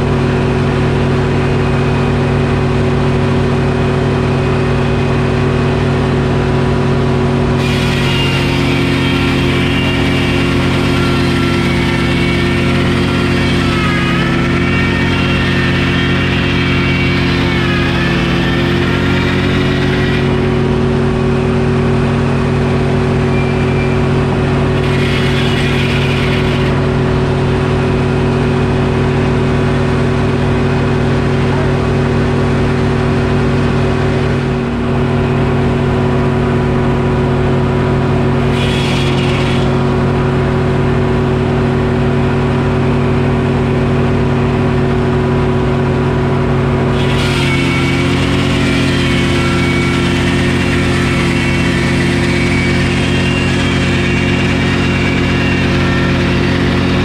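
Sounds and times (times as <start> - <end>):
diesel engine running sawmill: 0.0 - 57.0
saw blade whining through wood: 0.0 - 57.0.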